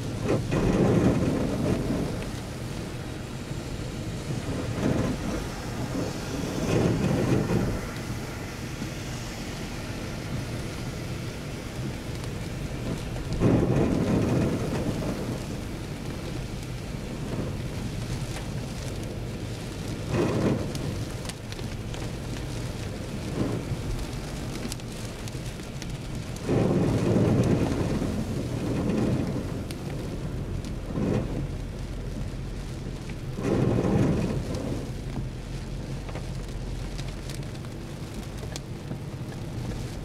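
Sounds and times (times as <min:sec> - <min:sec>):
heavy rain on car windshield: 0:00.0 - 0:40.0.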